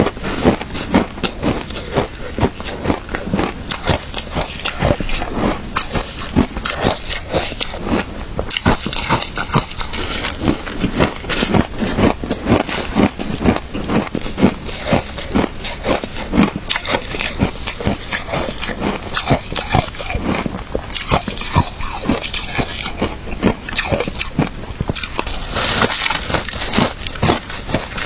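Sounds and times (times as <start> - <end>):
chewing crunchy shaved ice: 0.0 - 28.0.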